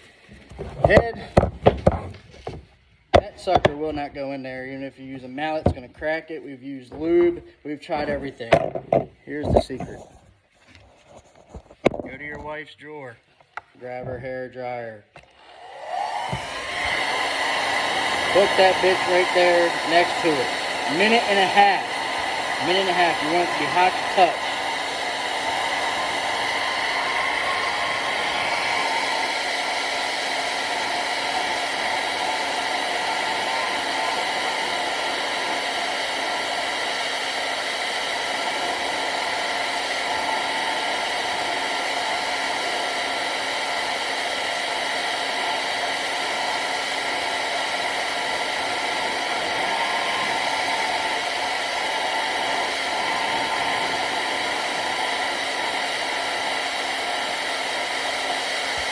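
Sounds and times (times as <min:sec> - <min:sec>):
hair dryer blowing: 0:00.0 - 0:09.9, 0:15.2 - 0:58.9.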